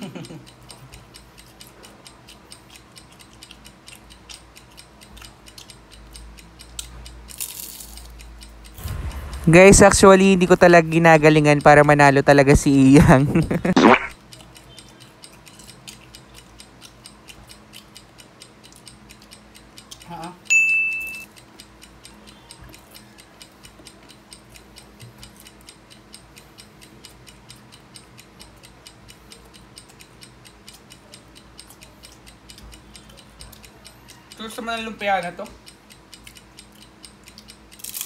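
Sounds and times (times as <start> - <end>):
fast timer ticking: 0.0 - 38.0.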